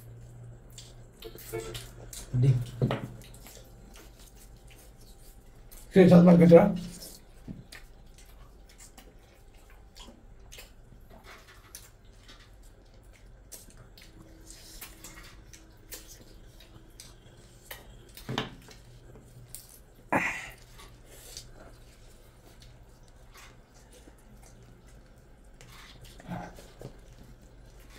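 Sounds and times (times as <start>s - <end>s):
wet chewing and lip-smacking: 0.0s - 6.0s, 6.8s - 27.9s.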